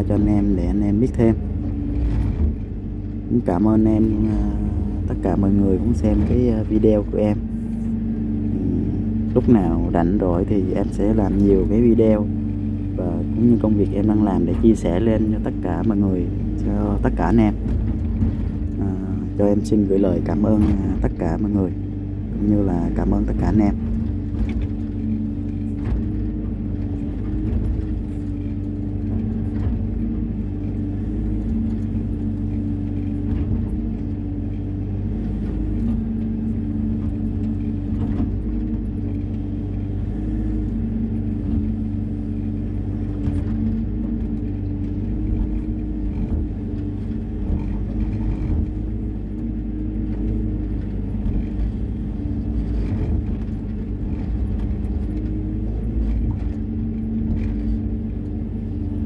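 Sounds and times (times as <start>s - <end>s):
excavator engine rumbling: 0.0s - 59.0s.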